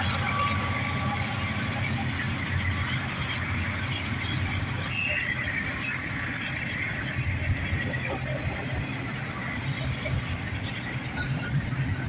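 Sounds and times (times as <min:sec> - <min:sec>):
freight train wheels rumbling: 0:00.0 - 0:12.0
high wheel squeal: 0:00.0 - 0:12.0.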